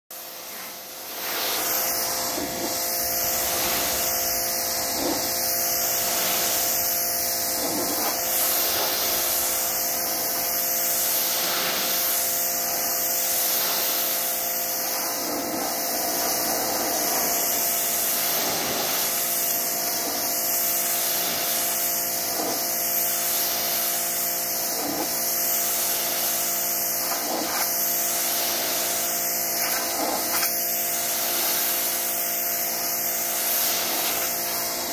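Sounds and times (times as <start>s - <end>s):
pressure washer spraying: 0.1s - 34.9s.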